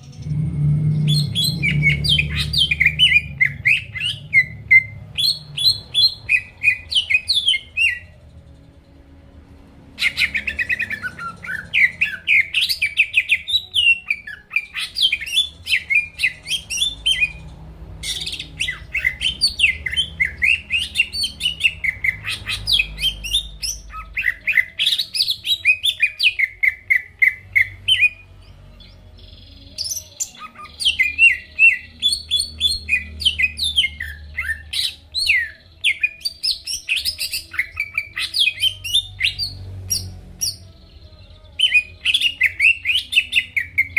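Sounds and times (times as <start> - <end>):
bird chirping and whistling: 0.0 - 8.1, 10.0 - 28.2, 29.2 - 40.6, 41.5 - 43.9.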